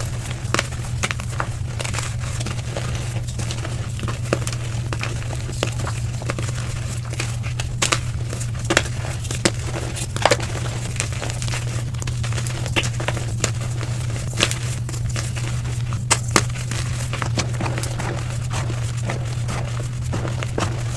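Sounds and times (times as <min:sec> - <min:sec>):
chalk crunching and crackling: 0:00.0 - 0:20.9
low hum: 0:00.0 - 0:20.9.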